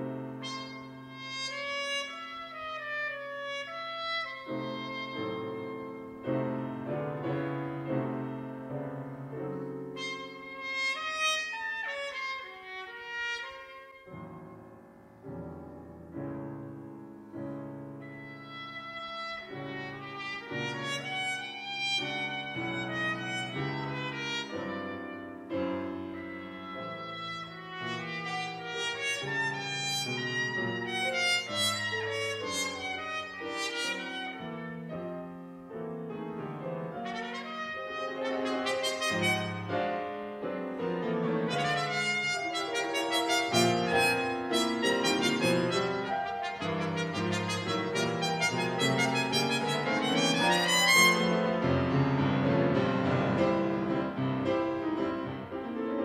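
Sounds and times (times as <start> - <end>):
solo trumpet: 0.0 - 14.8, 16.4 - 56.0
piano chords: 0.0 - 56.0.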